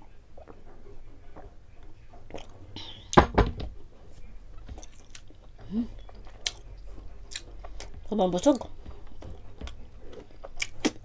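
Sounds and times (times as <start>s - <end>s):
eating and drinking mouth sounds: 0.0s - 3.2s, 4.5s - 11.0s.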